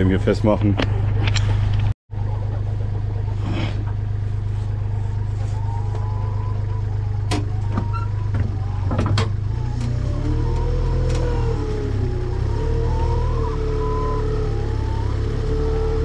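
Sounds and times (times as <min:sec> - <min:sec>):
tractor engine humming: 0:00.0 - 0:16.0.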